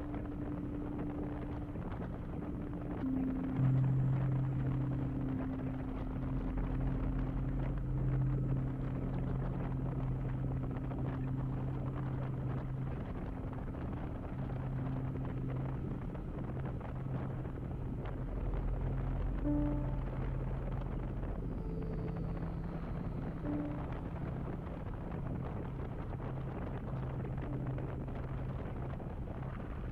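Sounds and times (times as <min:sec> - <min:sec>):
wind rushing over microphone: 0:00.0 - 0:29.9.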